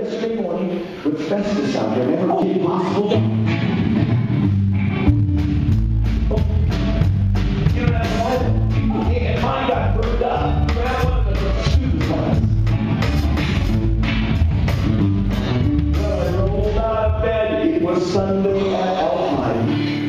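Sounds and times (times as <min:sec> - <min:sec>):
live rock band playing: 0:02.4 - 0:20.0.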